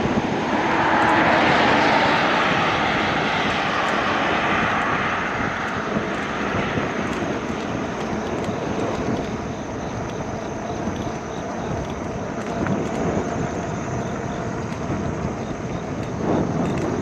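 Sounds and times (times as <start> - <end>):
airplane passing by: 0.0 - 17.0.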